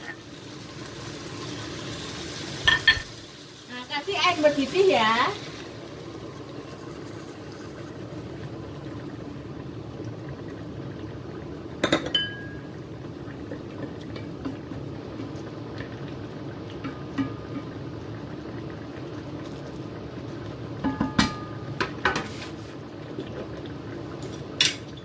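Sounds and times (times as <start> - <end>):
broth bubbling in pot: 0.0 - 25.0.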